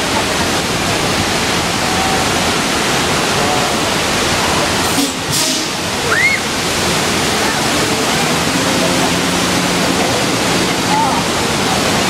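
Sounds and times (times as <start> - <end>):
water gushing: 0.0 - 12.0.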